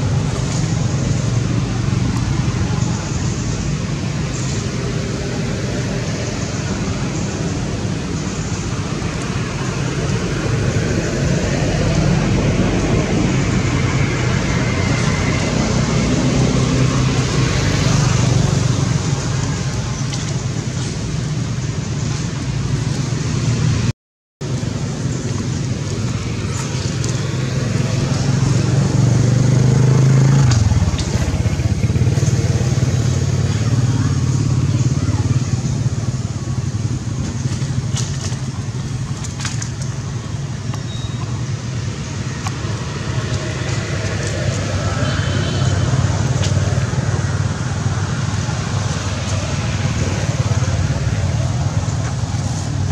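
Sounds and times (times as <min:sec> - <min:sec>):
vehicle engines running: 0:00.0 - 0:52.9.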